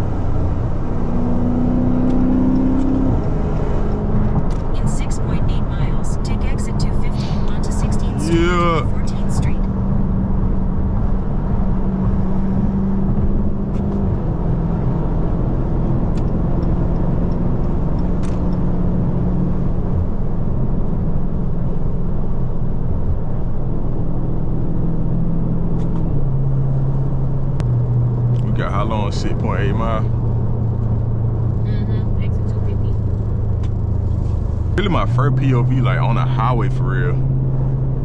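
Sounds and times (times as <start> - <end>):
exhaust drone: 0.0 - 38.0
road noise: 0.0 - 38.0.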